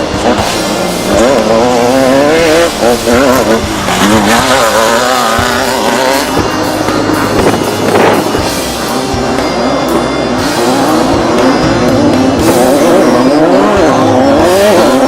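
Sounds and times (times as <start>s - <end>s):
race vehicle engine revving: 0.0s - 15.0s.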